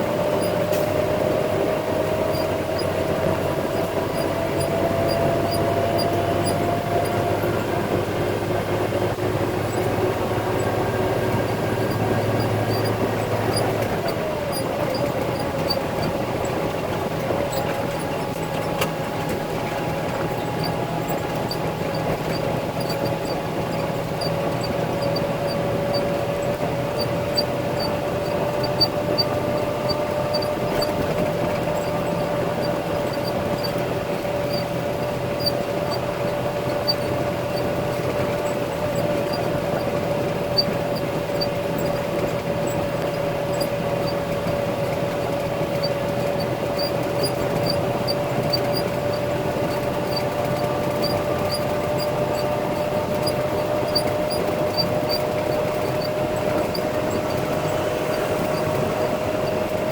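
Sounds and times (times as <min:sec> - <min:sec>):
constant whine: 0:00.0 - 0:59.9
diesel engine running: 0:00.0 - 0:59.9
faint high squeaks: 0:01.9 - 0:08.4, 0:09.0 - 0:59.9.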